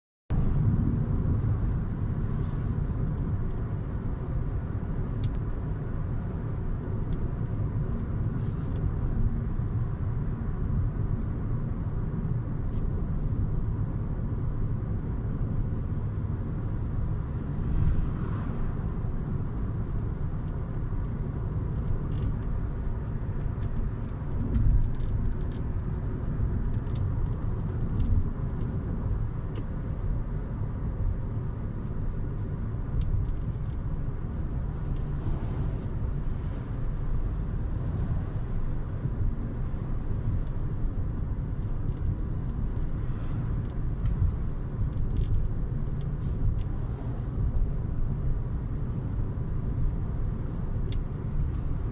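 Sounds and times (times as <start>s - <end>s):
road and engine rumble: 0.3s - 51.9s.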